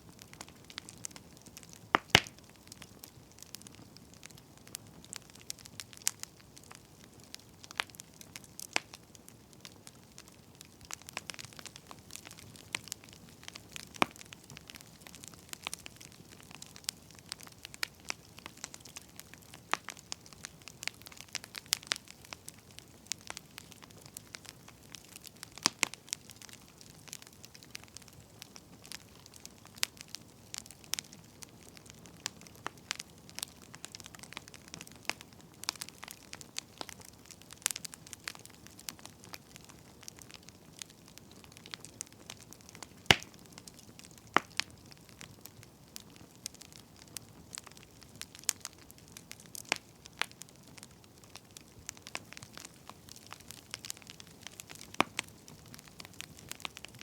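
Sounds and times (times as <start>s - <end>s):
faint steady hiss: 0.0s - 57.0s
wood fire crackling: 0.0s - 57.0s.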